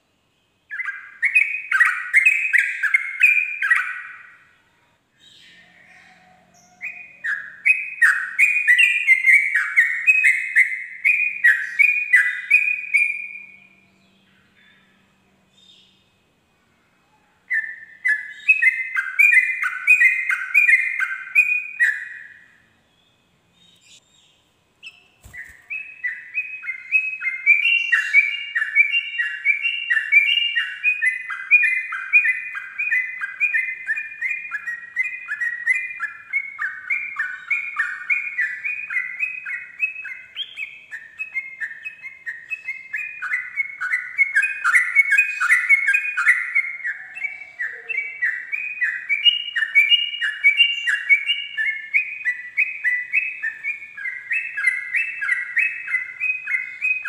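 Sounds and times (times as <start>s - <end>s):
bird whistled song: 0.4s - 4.6s, 5.2s - 16.1s, 17.1s - 57.0s.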